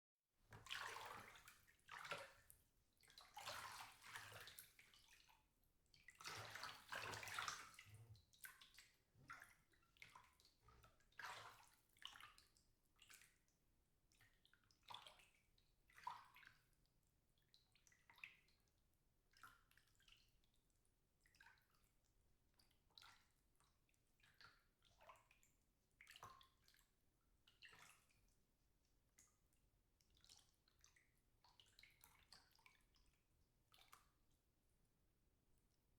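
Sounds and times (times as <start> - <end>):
water sloshing in a bathtub: 0.4 - 35.9.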